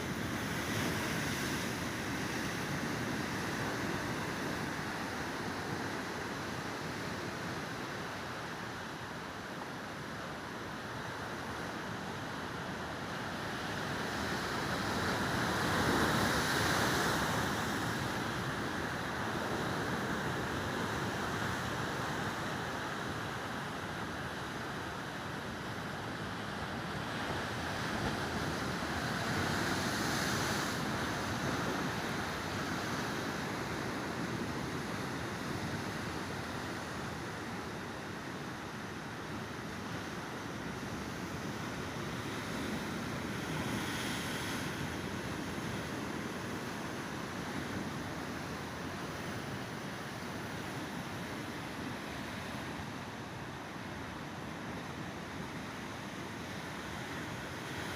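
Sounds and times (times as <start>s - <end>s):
waves breaking on shore: 0.0s - 57.9s.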